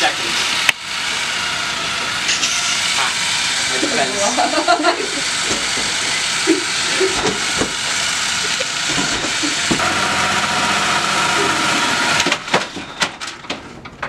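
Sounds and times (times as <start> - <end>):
electric motors whirring: 0.0 - 13.4
steady whine: 0.0 - 13.4.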